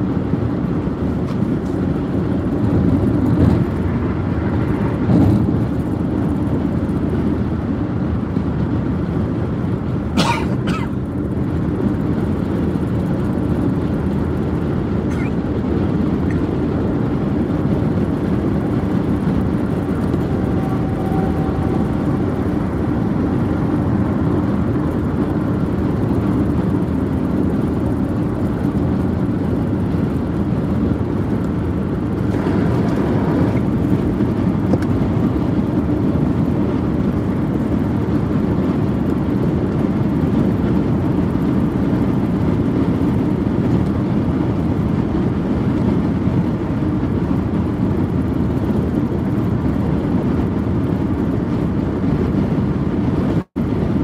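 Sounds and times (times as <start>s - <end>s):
road and tyre noise inside car: 0.0s - 54.0s.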